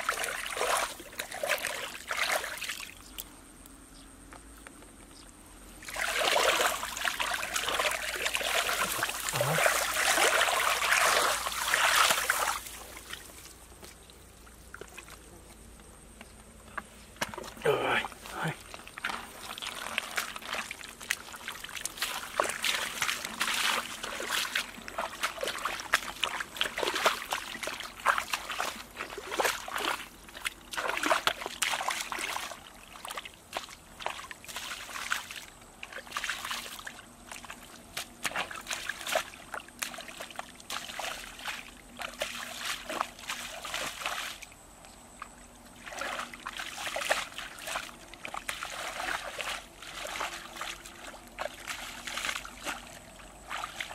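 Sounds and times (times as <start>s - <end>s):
bare feet wading in muddy water: 0.0s - 3.8s, 5.6s - 53.9s.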